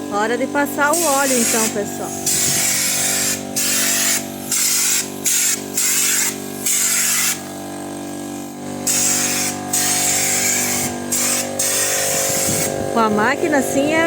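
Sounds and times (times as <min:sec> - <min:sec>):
air compressor humming: 0:00.0 - 0:14.0
spray gun hissing bursts: 0:00.8 - 0:12.9.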